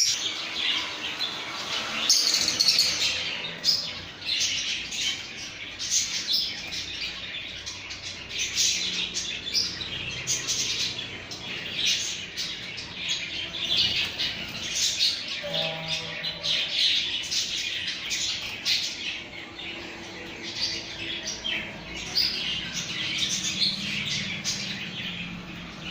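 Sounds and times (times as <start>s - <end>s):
birds chirping and squawking: 0.0s - 25.9s.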